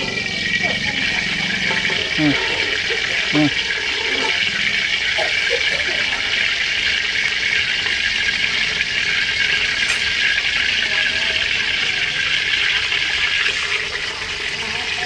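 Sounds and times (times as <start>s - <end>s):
oil sizzling in a wok: 0.0s - 15.0s.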